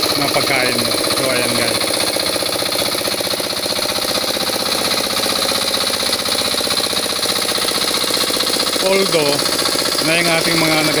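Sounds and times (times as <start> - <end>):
hand tractor engine chugging: 0.0 - 11.0.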